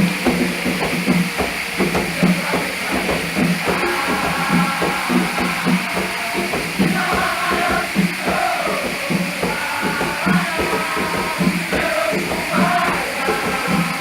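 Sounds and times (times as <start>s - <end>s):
constant hiss: 0.0s - 14.0s
ritual drumming: 0.0s - 14.0s.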